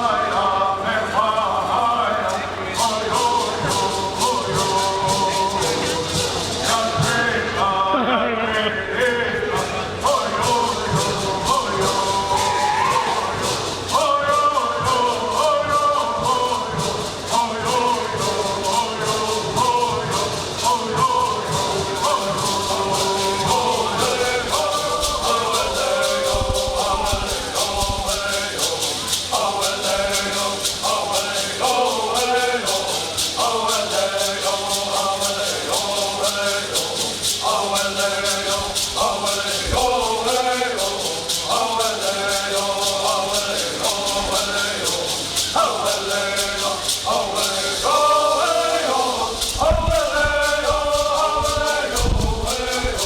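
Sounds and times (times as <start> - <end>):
gourd rattles shaking: 0.0 - 7.9, 9.1 - 53.0
group singing in unison: 0.0 - 53.0.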